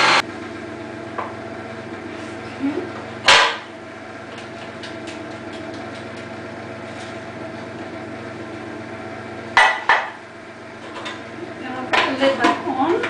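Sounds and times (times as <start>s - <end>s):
food processor motor running: 0.0s - 13.0s.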